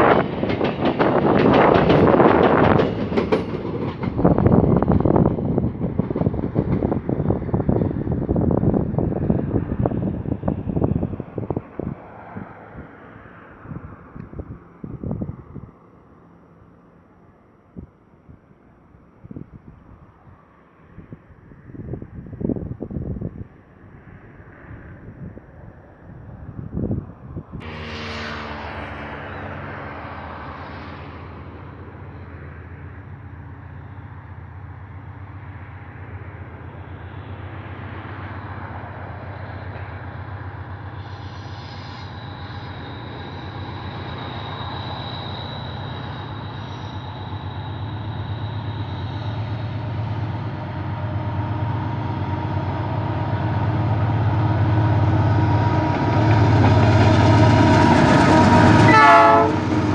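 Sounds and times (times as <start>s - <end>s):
freight locomotive engine drone: 0.0s - 59.9s.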